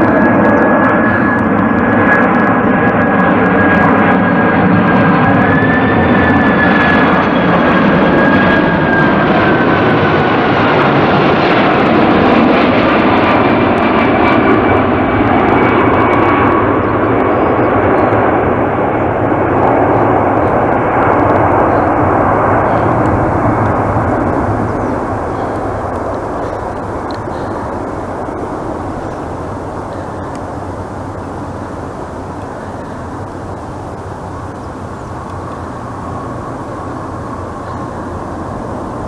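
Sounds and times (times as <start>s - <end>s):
jet plane passing low overhead: 0.0s - 39.0s.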